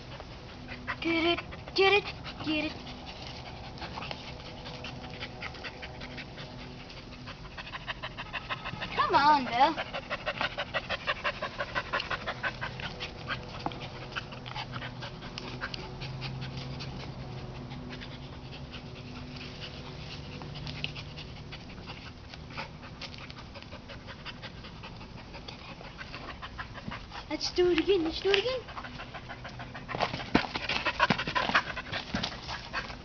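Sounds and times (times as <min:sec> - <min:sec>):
dog panting fast: 0:00.0 - 0:33.0.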